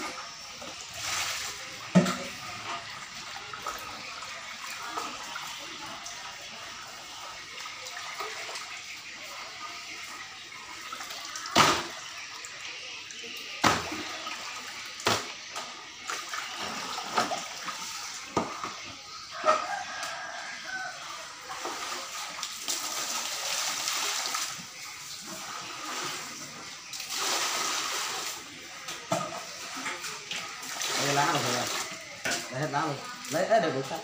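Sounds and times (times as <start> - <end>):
water pouring into basin: 0.0 - 34.0.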